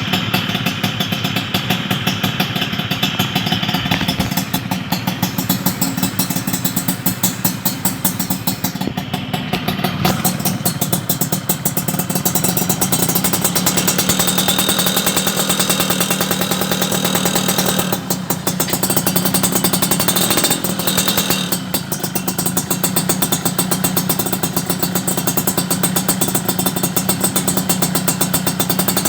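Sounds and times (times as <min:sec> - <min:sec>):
two-stroke motorcycle engine: 0:00.0 - 0:29.0.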